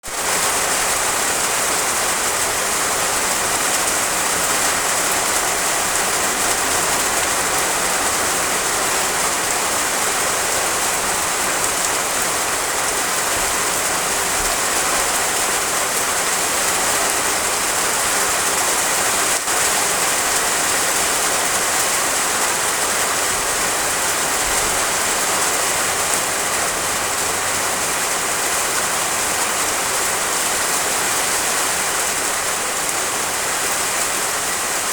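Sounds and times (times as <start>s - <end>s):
heavy rain drumming on roof tiles: 0.0s - 34.9s.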